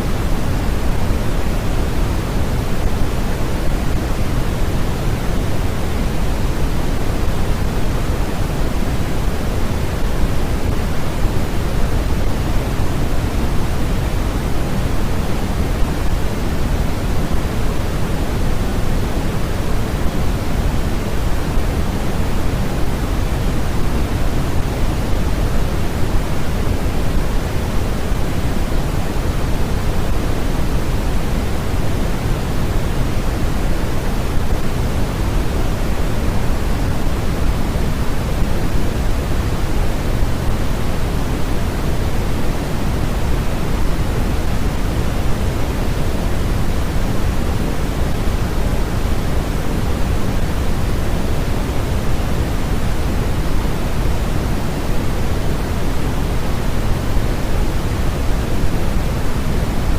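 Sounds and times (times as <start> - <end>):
low steady hiss: 0.0 - 59.9.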